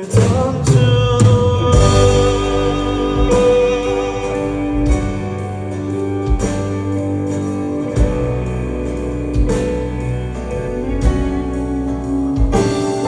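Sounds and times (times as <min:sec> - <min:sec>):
live band playing slow ballad: 0:00.0 - 0:13.0.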